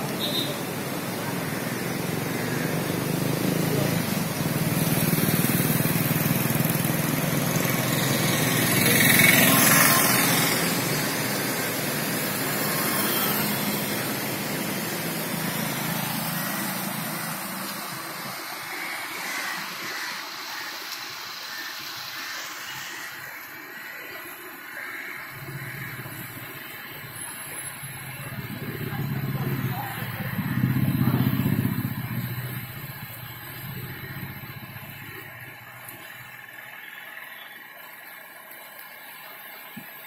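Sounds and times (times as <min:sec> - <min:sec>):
river water roaring: 0:00.0 - 0:37.1.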